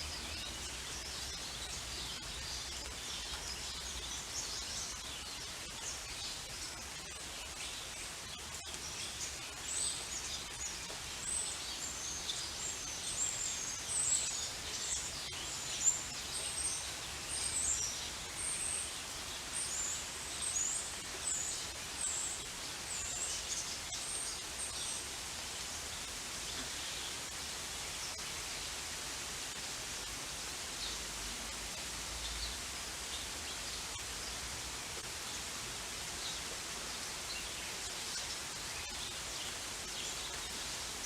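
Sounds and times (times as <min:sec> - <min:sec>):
small birds chirping: 0:00.0 - 0:41.0
steady rain: 0:00.0 - 0:41.0.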